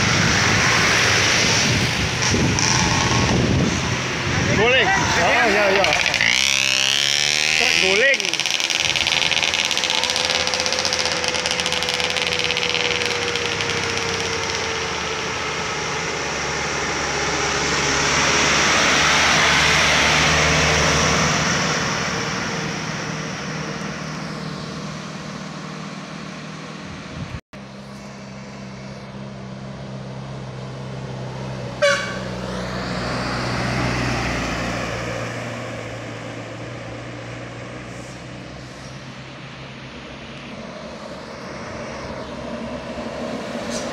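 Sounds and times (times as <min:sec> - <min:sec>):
heavy trucks driving past: 0:00.0 - 0:43.9.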